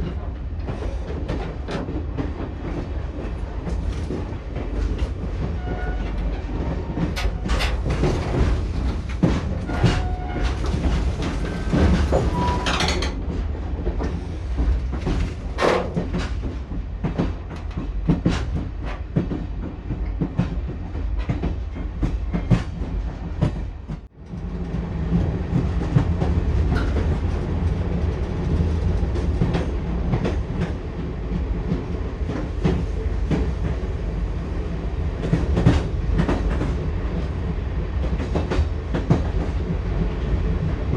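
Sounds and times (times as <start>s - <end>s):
train wheels clattering: 0.0s - 33.9s, 35.2s - 37.3s
low train rumble: 0.0s - 40.9s.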